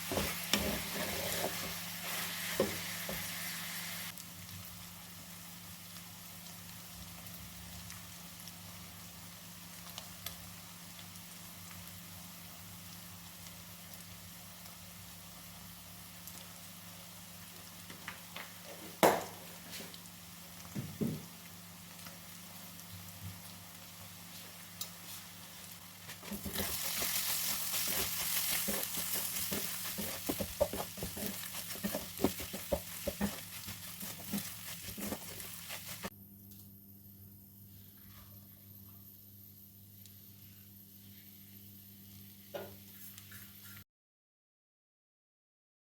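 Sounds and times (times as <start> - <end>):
food sizzling in a pan: 0.0 - 36.1, 39.8 - 43.8.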